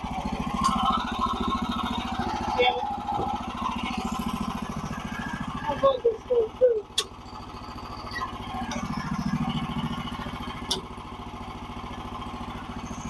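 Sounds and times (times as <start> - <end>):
sawmill gasoline engine running: 0.0 - 13.0.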